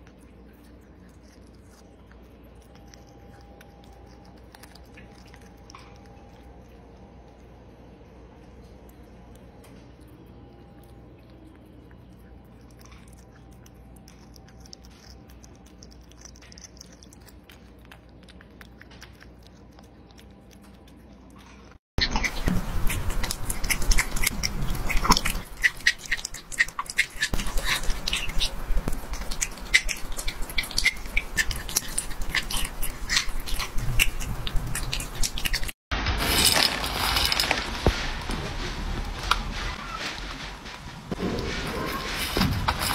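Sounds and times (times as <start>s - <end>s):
cat chewing dry kibble: 0.0s - 35.8s
cat chewing raw meat: 0.0s - 35.8s.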